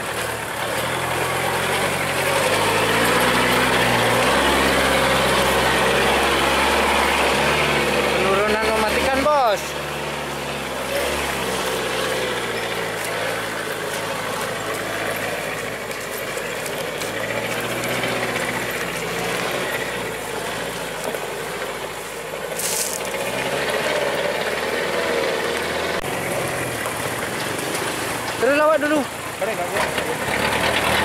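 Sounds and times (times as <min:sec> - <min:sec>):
truck engine rattling: 0:00.0 - 0:31.0.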